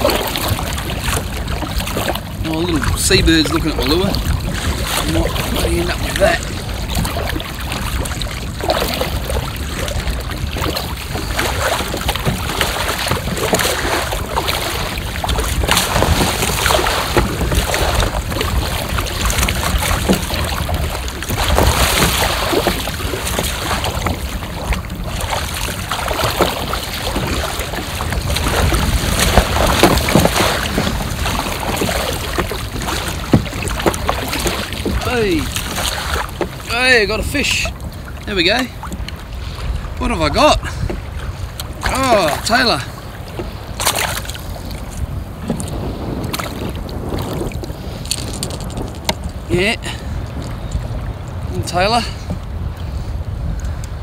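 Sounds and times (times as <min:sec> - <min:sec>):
paddle splashes: 0:00.0 - 0:54.0
water slapping against kayak: 0:00.0 - 0:54.0
wind buffeting microphone: 0:00.0 - 0:54.0.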